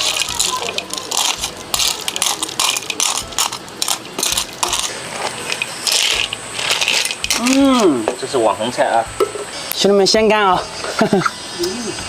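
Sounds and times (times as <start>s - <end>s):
simmering pot clicking and crackling: 0.0s - 11.0s.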